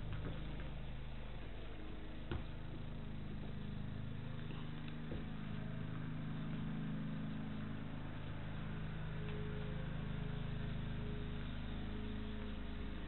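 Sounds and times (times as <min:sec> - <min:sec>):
low background hum: 0:00.0 - 0:13.0
faint high steady tone: 0:01.3 - 0:13.0.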